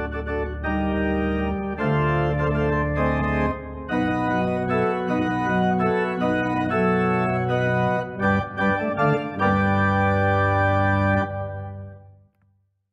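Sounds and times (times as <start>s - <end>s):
organ playing slow chords: 0.0s - 12.1s.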